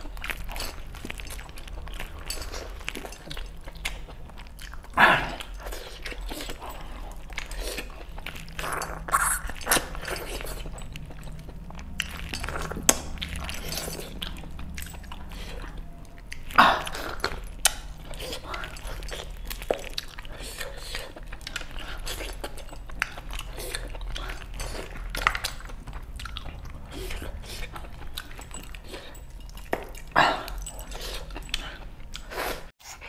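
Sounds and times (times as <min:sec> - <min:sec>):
wet chewing and crunching: 0:00.0 - 0:32.8.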